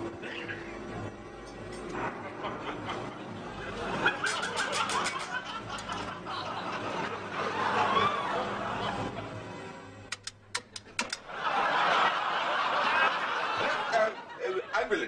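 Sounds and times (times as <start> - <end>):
studio audience laughing: 0.2 - 1.0, 2.0 - 9.7, 10.7 - 15.0.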